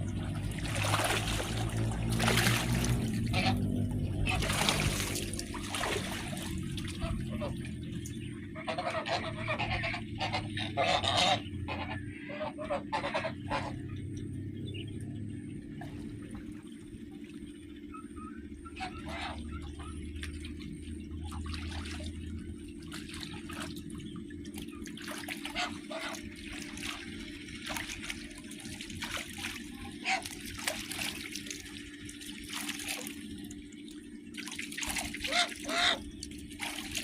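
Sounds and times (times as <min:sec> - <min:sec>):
low hum: 0:00.0 - 0:37.0
water trickling and splashing: 0:00.0 - 0:37.0.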